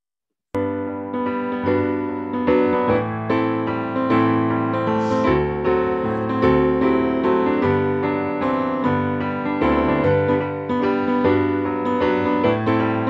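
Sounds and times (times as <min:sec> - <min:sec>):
piano music: 0:00.6 - 0:13.0.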